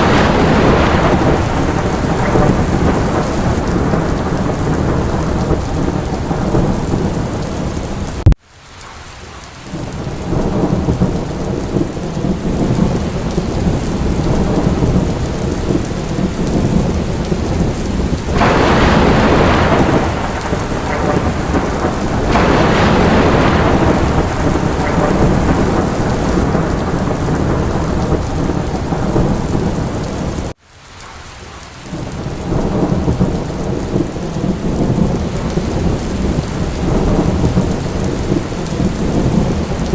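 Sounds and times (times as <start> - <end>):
low thunder rumble: 0.0 - 8.4, 9.7 - 30.5, 31.9 - 39.9
heavy rain: 0.0 - 39.9.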